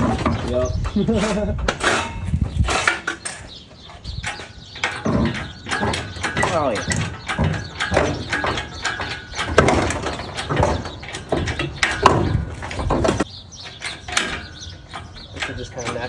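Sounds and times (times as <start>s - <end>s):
metallic knocks and clanks: 0.0s - 16.0s.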